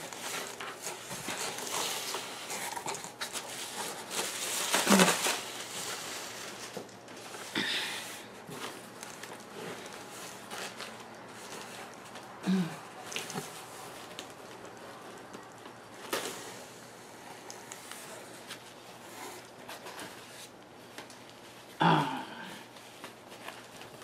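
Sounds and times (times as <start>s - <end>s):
packing material crinkling and rustling: 0.0s - 21.8s, 22.6s - 24.0s.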